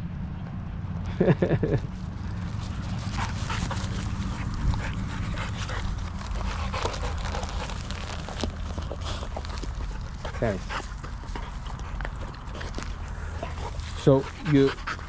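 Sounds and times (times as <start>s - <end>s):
steady low rumble: 0.0s - 15.0s
dogs panting: 1.8s - 15.0s.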